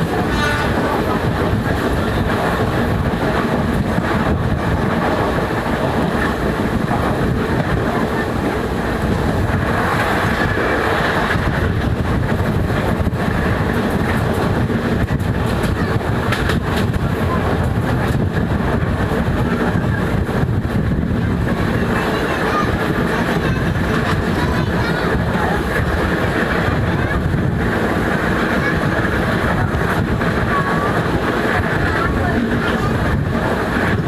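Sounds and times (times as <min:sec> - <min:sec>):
rail engine rumbling: 0:00.0 - 0:34.0.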